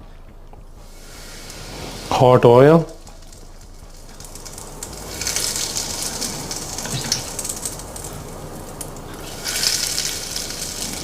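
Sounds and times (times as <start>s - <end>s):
hot oil sizzling on spices: 0.8s - 11.0s.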